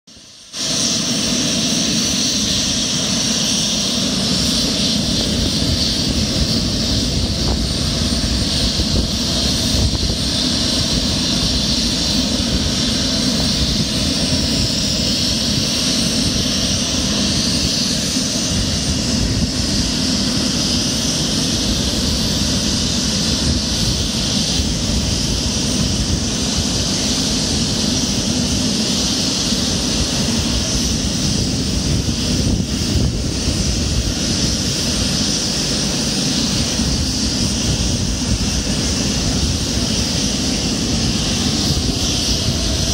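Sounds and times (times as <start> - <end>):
turboprop engines running: 0.1 - 42.9.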